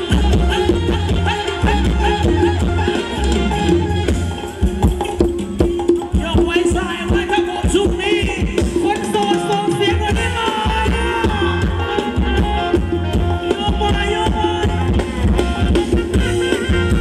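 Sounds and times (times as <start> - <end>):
band music through loudspeakers: 0.0 - 17.0
wood block percussion: 0.0 - 17.0.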